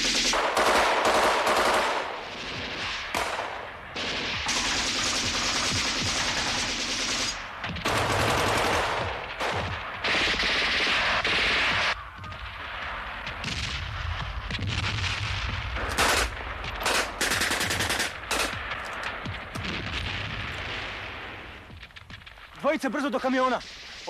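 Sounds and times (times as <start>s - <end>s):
machine-gun and rifle fire: 0.0s - 12.0s, 13.1s - 21.6s.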